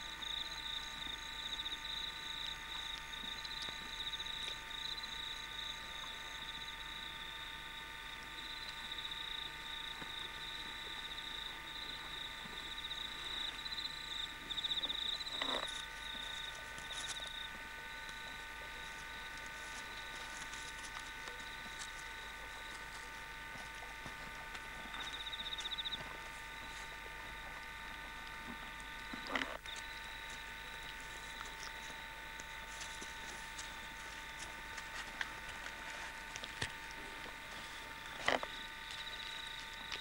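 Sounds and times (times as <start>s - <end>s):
camcorder electronic whine: 0.0s - 40.0s.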